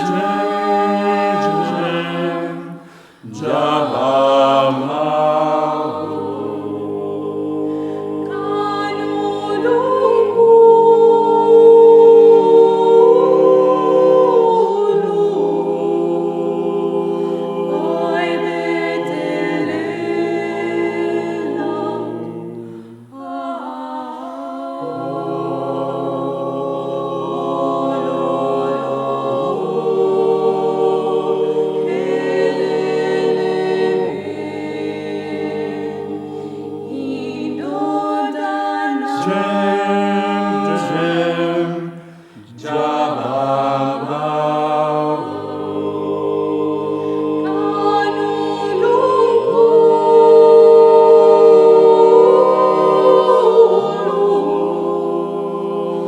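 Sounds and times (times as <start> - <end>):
a cappella vocal ensemble: 0.0 - 56.0.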